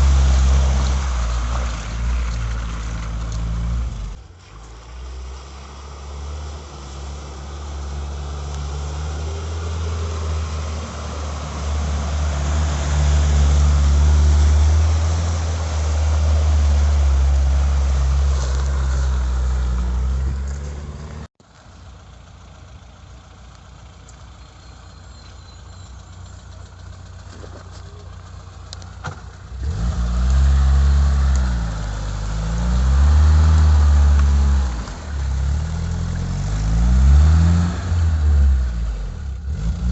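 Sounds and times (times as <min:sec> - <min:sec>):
engine working under load: 0:00.0 - 0:39.9.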